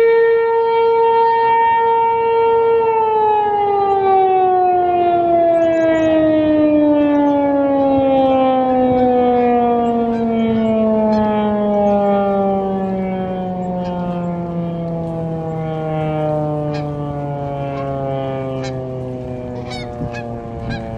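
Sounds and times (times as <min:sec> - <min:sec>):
warning siren winding down: 0:00.0 - 0:20.9.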